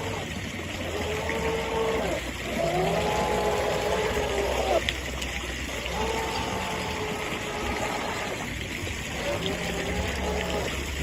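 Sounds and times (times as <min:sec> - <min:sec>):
water hissing: 0:00.0 - 0:11.0.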